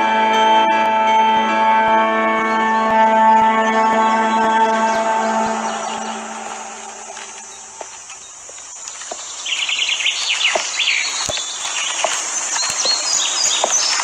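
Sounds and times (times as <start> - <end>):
small birds chirping: 2.5 - 14.0.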